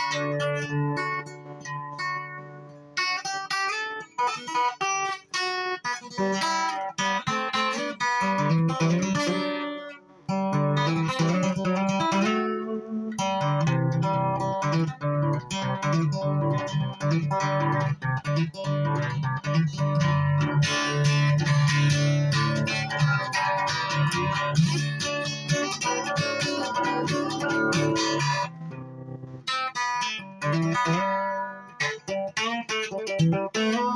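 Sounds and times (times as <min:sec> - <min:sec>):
plucked string instrument music: 0:00.0 - 0:33.9.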